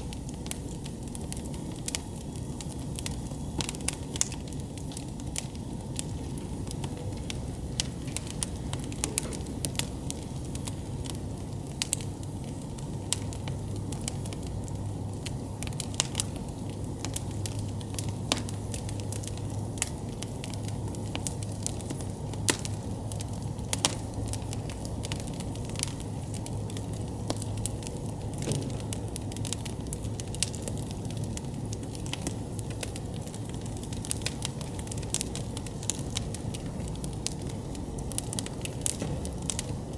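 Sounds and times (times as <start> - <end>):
campfire crackling and popping: 0.0 - 39.9
low rumble of flame: 0.0 - 39.9.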